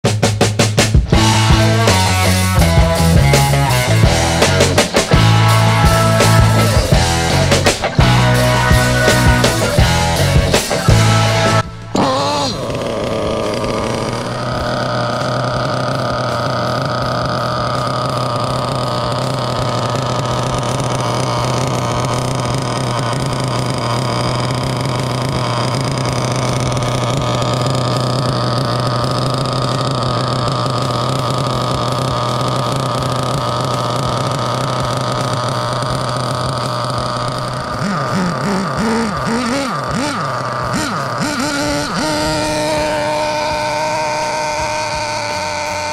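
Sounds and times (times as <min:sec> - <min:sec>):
nitro engine running: 0:00.0 - 0:45.9.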